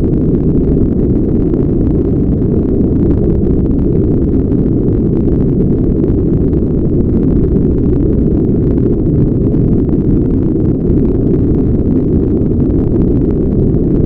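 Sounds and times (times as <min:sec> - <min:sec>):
deep rumbling brown noise: 0:00.0 - 0:14.0.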